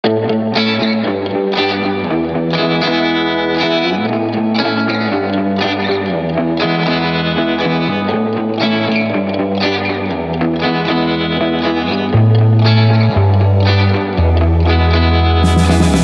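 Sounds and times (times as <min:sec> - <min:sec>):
distorted electric guitar music: 0:00.0 - 0:16.0.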